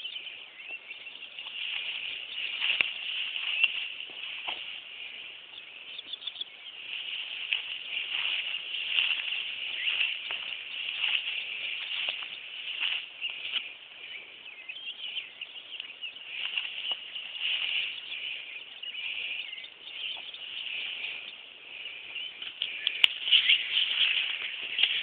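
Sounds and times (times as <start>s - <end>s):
footsteps through grass: 0.0s - 25.0s
small birds chirping: 0.0s - 25.0s.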